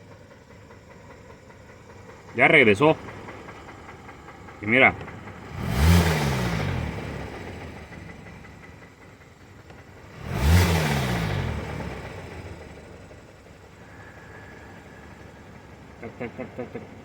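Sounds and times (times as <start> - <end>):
car engine knocking: 0.0 - 17.0.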